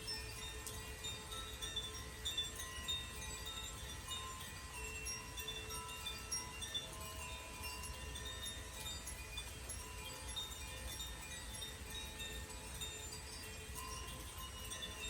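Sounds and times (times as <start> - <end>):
wind chimes struck by hand: 0.0 - 15.0.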